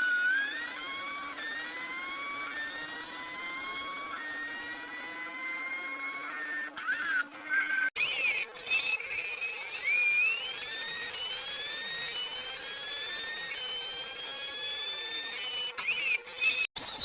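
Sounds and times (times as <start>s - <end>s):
thin whining rising tones: 0.0s - 17.0s.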